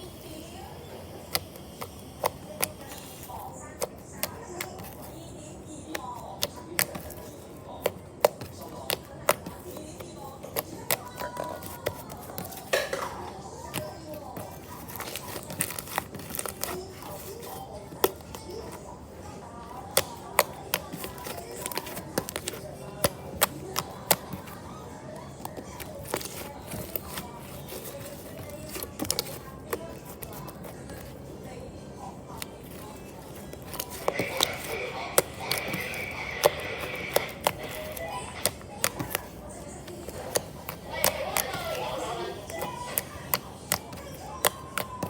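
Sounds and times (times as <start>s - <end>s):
faint background music: 0.0s - 45.0s.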